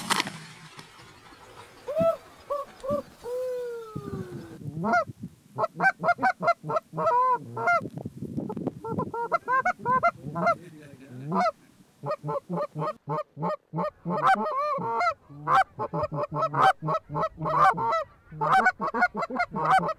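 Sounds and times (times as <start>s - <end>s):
geese honking: 0.1s - 3.4s, 4.3s - 7.8s, 8.8s - 19.9s.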